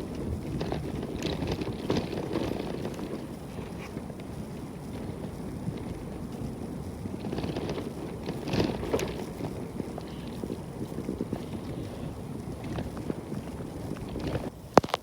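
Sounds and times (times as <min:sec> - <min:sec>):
wind buffeting microphone: 0:00.0 - 0:14.8
bicycle riding rough track: 0:00.0 - 0:15.0.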